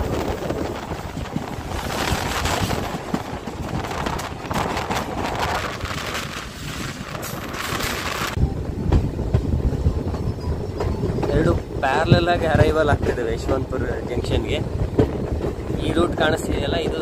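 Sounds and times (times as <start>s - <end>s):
passenger train rumble: 0.0s - 17.0s
wind rushing over microphone: 0.0s - 17.0s.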